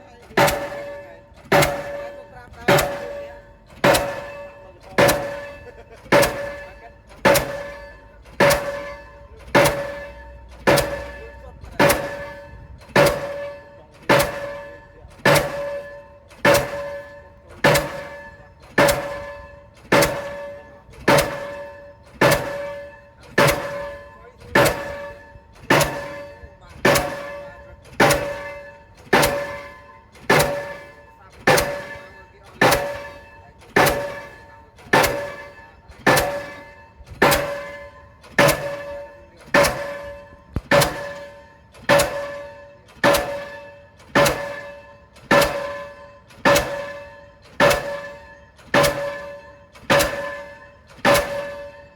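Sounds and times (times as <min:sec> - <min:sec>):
pile hammer blows with ringing clang: 0:00.0 - 0:51.9.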